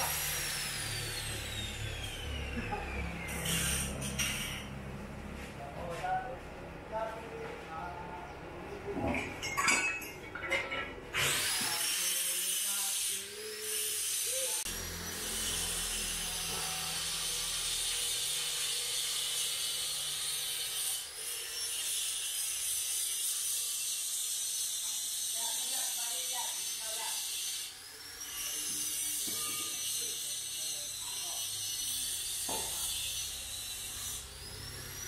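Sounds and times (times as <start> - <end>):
power tool grinding metal: 0.0 - 4.8, 11.1 - 35.0.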